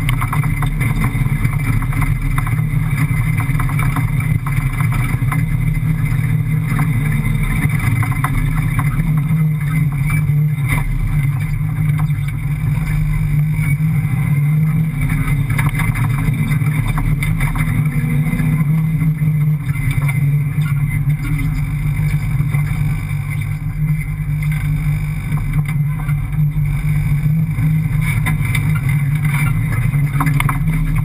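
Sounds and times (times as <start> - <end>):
rally car engine running hard: 0.0 - 31.0.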